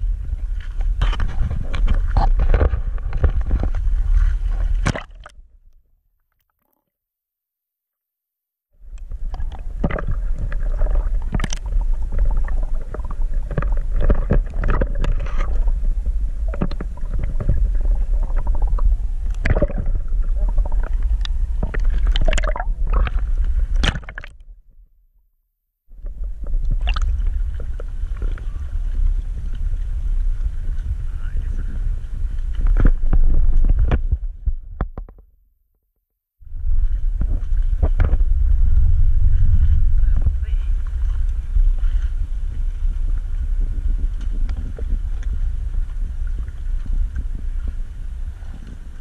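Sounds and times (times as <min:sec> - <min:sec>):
muffled underwater rumble: 0:00.0 - 0:05.8, 0:08.8 - 0:24.8, 0:25.9 - 0:35.3, 0:36.4 - 0:49.0
steady low rumble: 0:00.0 - 0:05.8, 0:08.8 - 0:24.8, 0:25.9 - 0:34.9, 0:36.5 - 0:49.0
knocks and clicks underwater: 0:00.2 - 0:06.8, 0:08.8 - 0:24.6, 0:26.0 - 0:31.0, 0:32.3 - 0:35.3, 0:36.6 - 0:47.8.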